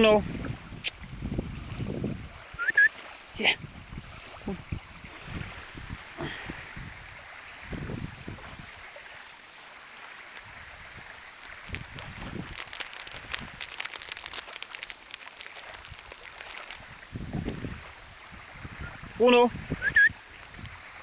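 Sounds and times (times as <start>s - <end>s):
wind buffeting microphone: 0.0s - 9.0s, 10.4s - 14.8s, 15.7s - 21.0s
waves lapping on shore: 0.0s - 21.0s.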